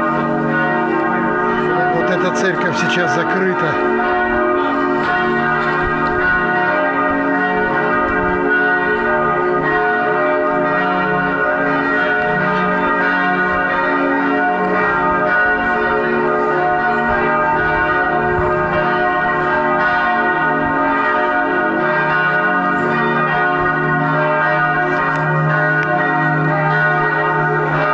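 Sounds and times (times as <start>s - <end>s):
church bells pealing: 0.0s - 27.9s.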